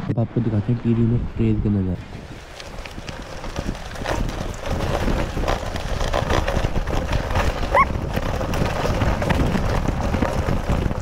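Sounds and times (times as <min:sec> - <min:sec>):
wind rumbling on microphone: 0:00.0 - 0:11.0
bike rattling over stones: 0:02.0 - 0:11.0
tyres crunching on gravel: 0:02.0 - 0:11.0.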